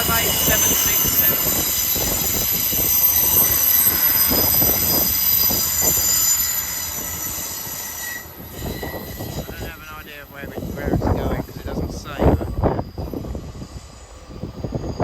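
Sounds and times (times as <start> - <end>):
rumble of train wheels: 0.0 - 15.0
train wheels squealing: 0.0 - 15.0.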